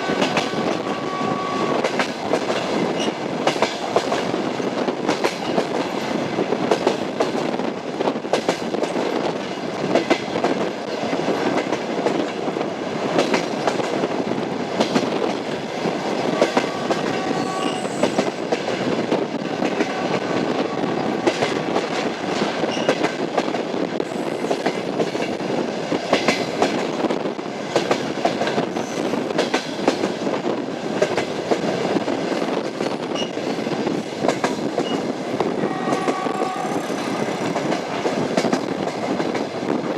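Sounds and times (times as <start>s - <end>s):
train rumble: 0.0s - 39.9s
wheels clickety-clack over rail joints: 0.0s - 39.9s.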